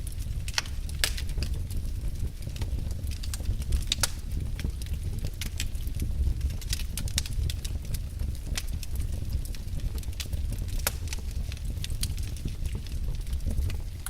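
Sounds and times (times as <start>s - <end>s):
fire crackles and pops: 0.0s - 14.0s
wood fire rumble: 0.0s - 14.0s.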